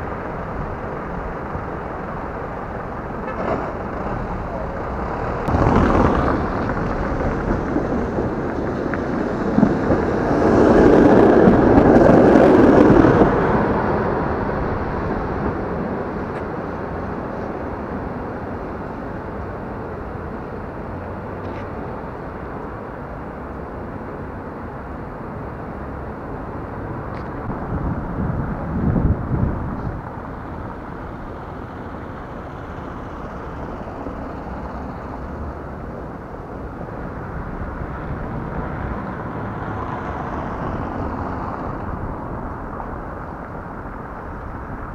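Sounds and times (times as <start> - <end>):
traffic rumble over cobblestones: 0.0 - 44.9.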